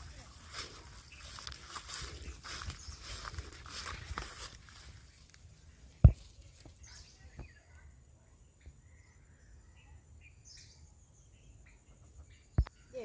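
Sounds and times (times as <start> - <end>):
faint bird chirps: 0.3 - 13.0.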